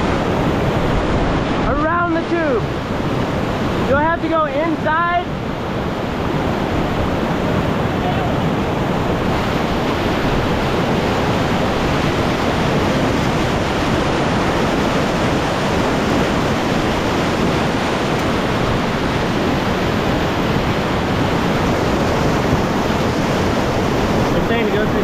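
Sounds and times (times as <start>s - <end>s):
river whitewater rushing: 0.0s - 25.0s.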